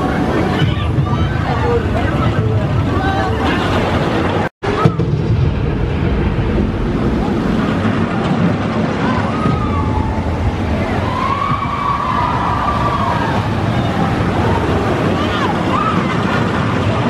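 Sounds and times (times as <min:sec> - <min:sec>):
amusement park rumble: 0:00.0 - 0:17.0.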